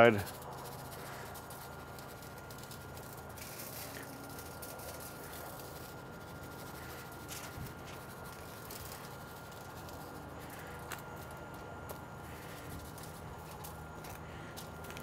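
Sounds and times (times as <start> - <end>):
background hum: 0.0 - 15.0
handling rustles and ticks: 0.0 - 15.0.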